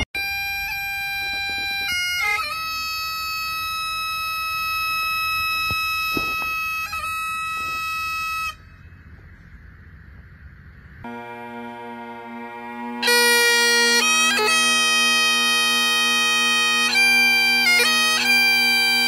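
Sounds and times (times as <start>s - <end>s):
bagpipes playing a slow lament: 0.0s - 8.7s, 11.0s - 19.0s
faint background noise: 0.2s - 19.0s.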